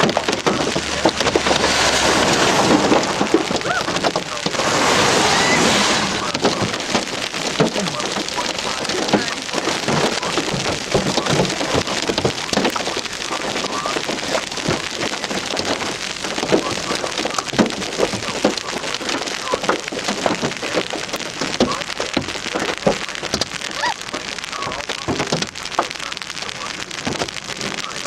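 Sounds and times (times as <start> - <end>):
hail and rain pelting a car: 0.0 - 28.0.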